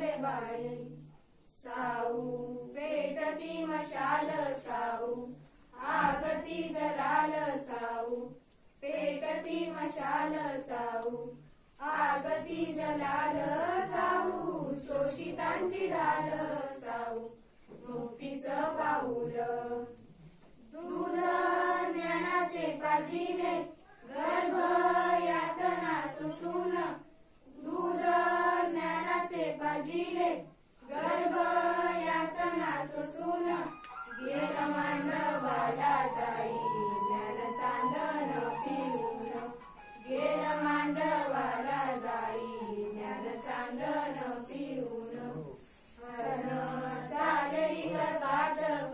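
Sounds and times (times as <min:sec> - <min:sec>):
girls singing unaccompanied: 0:00.0 - 0:48.9.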